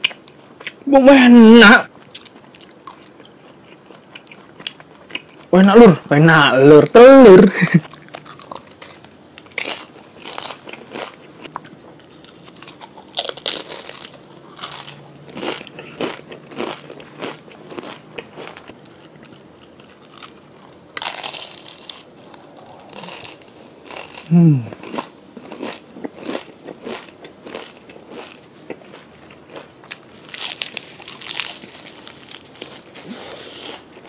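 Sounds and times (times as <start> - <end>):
person crunching taco shells: 1.9 - 6.0, 6.7 - 34.0.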